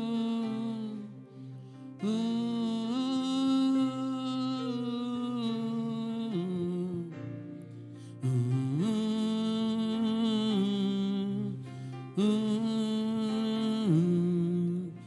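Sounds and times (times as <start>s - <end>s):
slow worship music: 0.0s - 15.0s.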